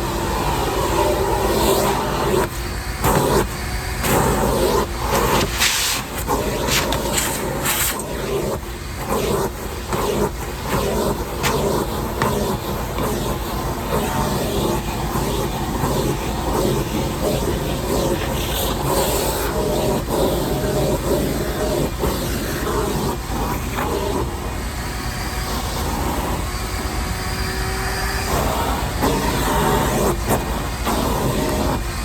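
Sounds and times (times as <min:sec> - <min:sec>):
shop vac running: 0:00.0 - 0:32.0.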